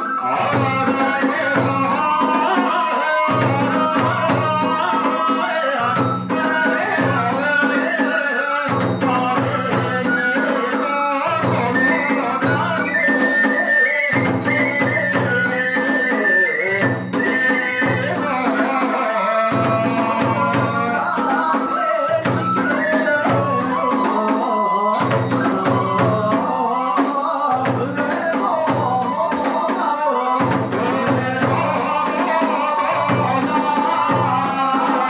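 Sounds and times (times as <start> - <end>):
bamboo flute melody: 0.0 - 35.0
drum strikes: 0.0 - 35.0.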